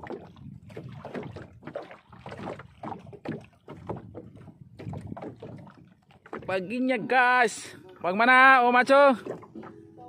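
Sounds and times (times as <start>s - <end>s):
sea water splashing and lapping: 0.0s - 10.0s.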